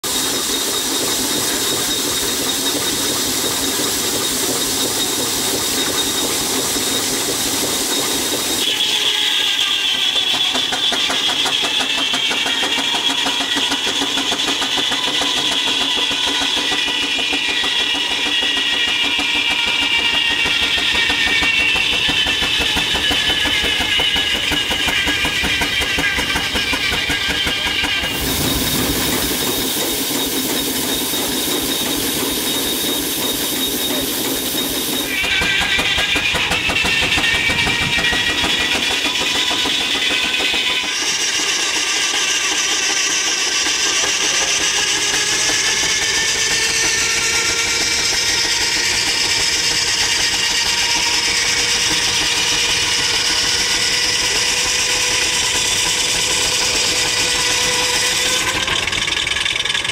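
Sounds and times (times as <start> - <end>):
saw cutting log whine: 0.0 - 59.9.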